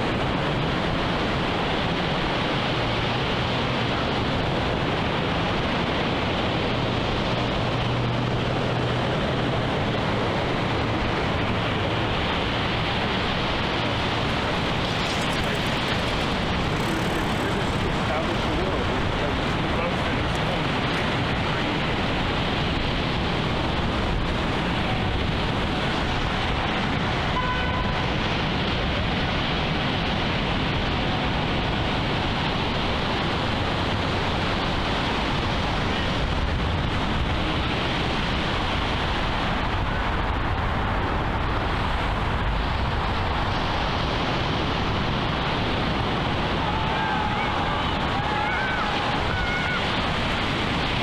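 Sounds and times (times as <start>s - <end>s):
ocean surf: 0.0s - 51.0s
road traffic: 0.0s - 51.0s.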